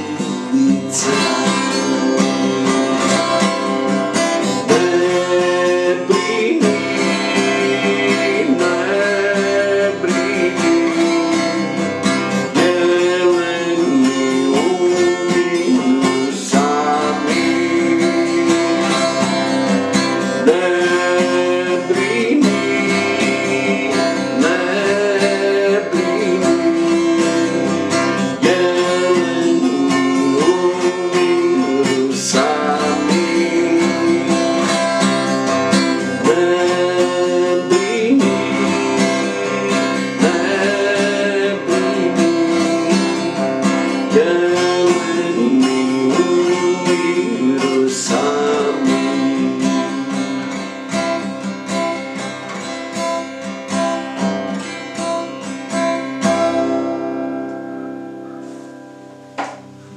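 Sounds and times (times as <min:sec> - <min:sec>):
man singing: 0:00.0 - 0:51.3
acoustic guitar strumming: 0:00.0 - 0:59.9.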